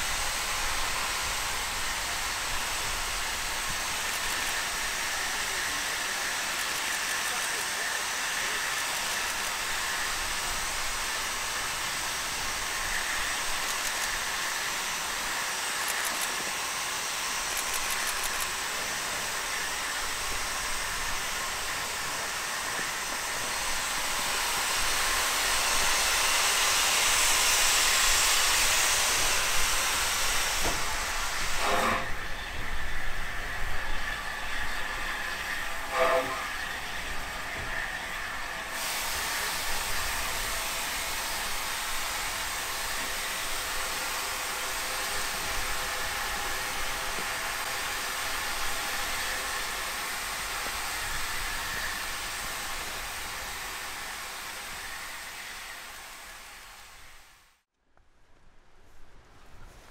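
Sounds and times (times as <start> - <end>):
steam locomotive hissing: 0.0 - 57.6.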